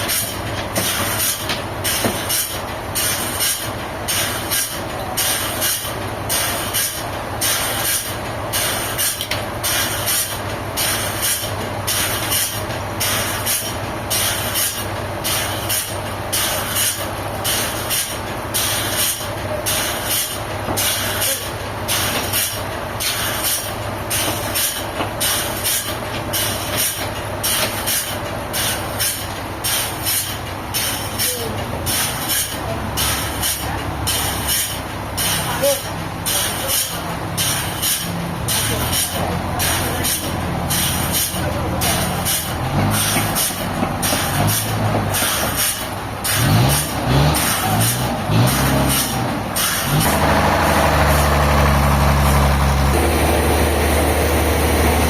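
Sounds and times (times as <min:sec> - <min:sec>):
sawmill machinery pulsing: 0:00.0 - 0:55.0.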